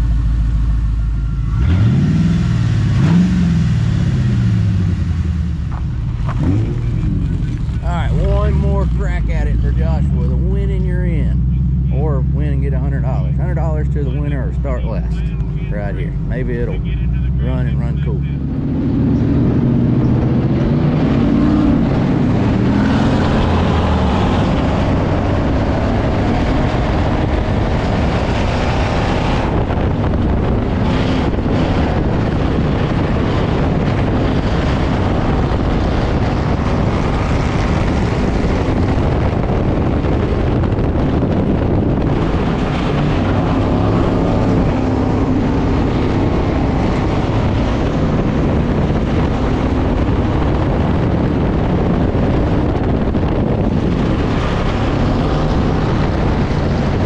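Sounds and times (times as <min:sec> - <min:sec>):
car engine running hard: 0:00.0 - 0:57.0
wind buffeting microphone: 0:04.4 - 0:57.0.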